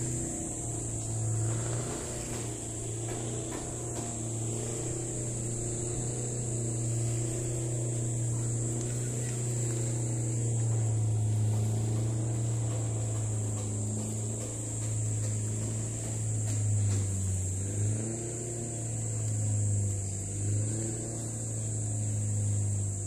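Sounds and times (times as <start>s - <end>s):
boat engine drone: 0.0s - 23.0s
high hiss: 0.0s - 23.0s.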